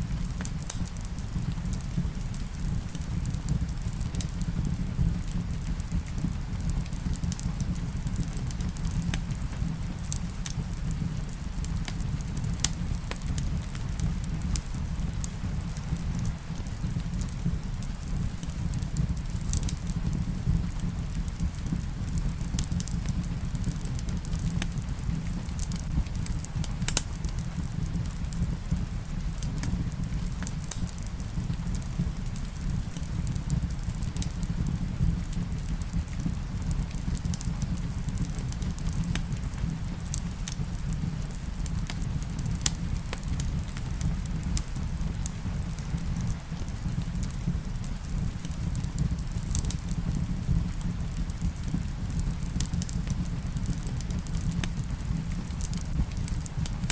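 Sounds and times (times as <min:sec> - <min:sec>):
rain rumbling: 0:00.0 - 0:56.9
wood fire crackling: 0:00.0 - 0:56.9.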